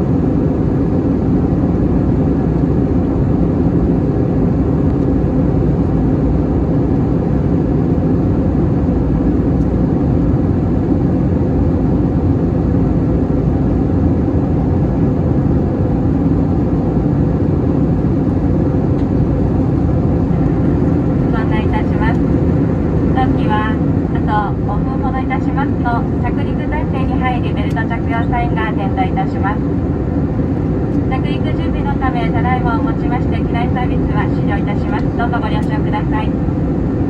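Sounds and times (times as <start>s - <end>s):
airplane cabin engine drone: 0.0s - 37.0s.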